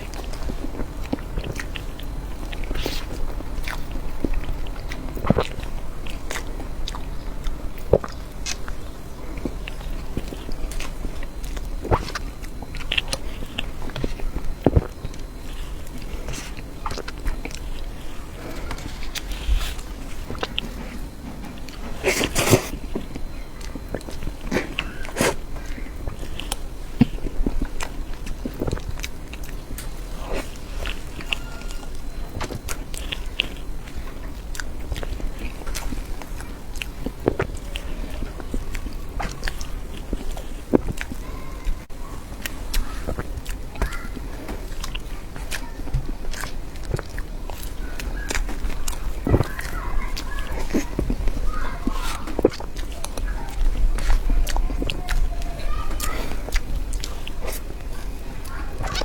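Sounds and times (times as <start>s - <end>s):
chewing cake: 0.0s - 59.0s.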